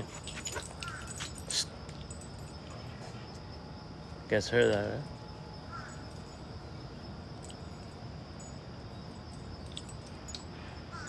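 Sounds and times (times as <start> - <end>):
crickets trilling: 0.0 - 11.0
low outdoor background rumble: 0.0 - 11.0.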